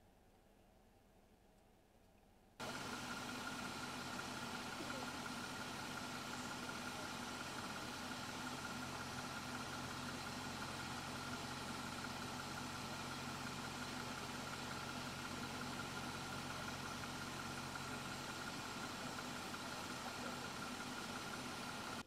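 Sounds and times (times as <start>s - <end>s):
car engine idling: 2.6s - 22.0s.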